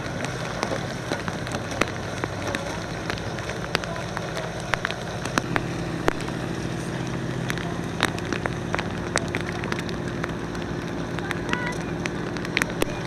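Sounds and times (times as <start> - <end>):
rain pattering: 0.0 - 13.0
sharp ticks of raindrops: 0.0 - 13.0.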